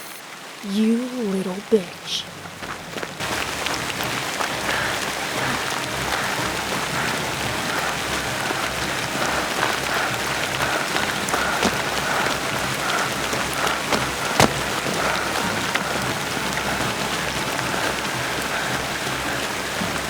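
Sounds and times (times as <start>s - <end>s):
rain on hard surfaces: 0.0s - 20.0s.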